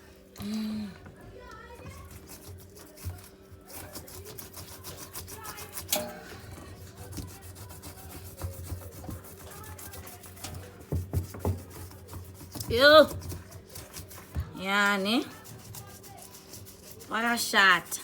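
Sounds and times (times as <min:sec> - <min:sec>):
scrubbing on washing machine: 0:00.0 - 0:18.0.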